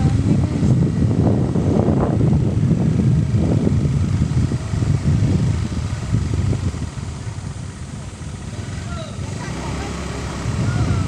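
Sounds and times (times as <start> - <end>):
moving vehicle noise: 0.0 - 11.0
wind buffeting microphone: 0.0 - 11.0.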